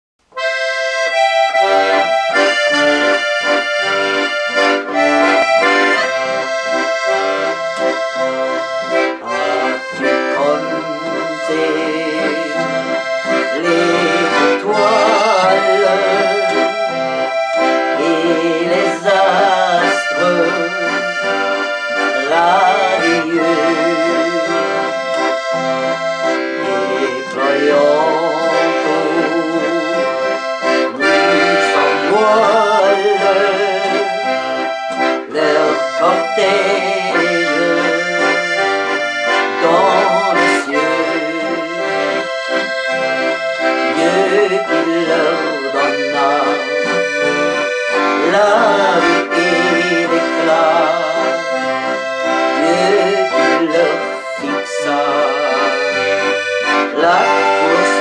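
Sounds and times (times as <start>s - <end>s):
accordion playing folk melody: 0.2s - 58.0s.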